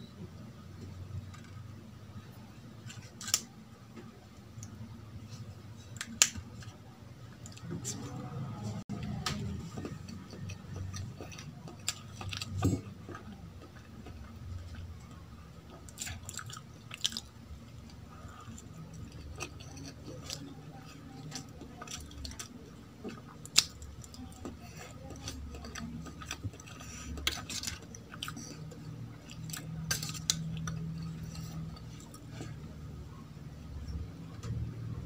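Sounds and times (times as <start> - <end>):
steady low hum: 0.0 - 35.0
quiet chewing with smacks: 0.3 - 34.8.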